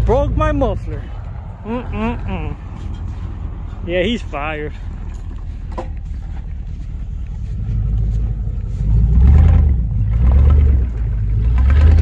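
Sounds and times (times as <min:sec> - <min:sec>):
pickup engine open exhaust rumble: 0:00.0 - 0:12.0.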